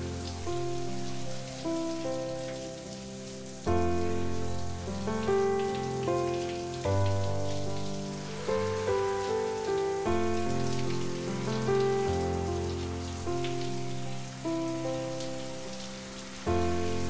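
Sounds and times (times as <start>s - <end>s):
running water hiss: 0.0s - 17.0s
slow music of sustained chords: 0.0s - 17.0s.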